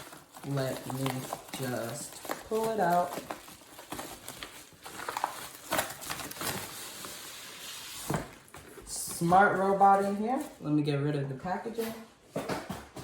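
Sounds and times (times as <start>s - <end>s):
packaging rustling and scraping: 0.0s - 10.7s.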